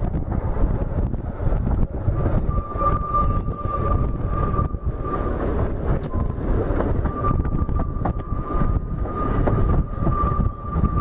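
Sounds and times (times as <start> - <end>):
train wheels rumbling on rail: 0.0 - 11.0
wheel flanges squealing: 2.0 - 11.0.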